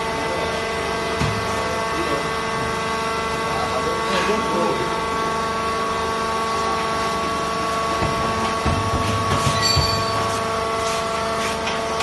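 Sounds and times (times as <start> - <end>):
hydraulic power unit whine: 0.0 - 12.0.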